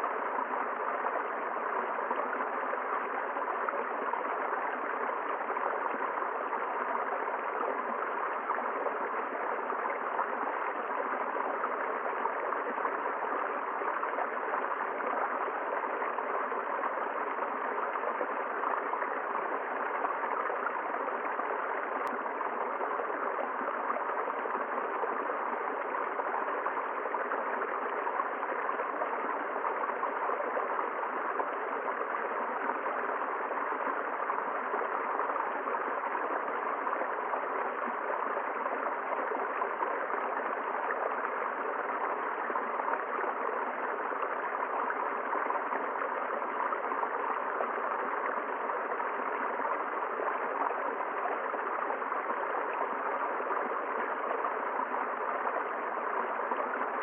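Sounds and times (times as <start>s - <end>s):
river water running over rocks: 0.0s - 57.0s.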